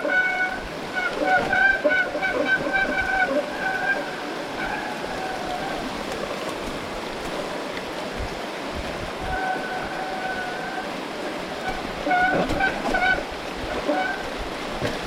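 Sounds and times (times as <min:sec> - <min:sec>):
heavy rain rushing: 0:00.0 - 0:15.0.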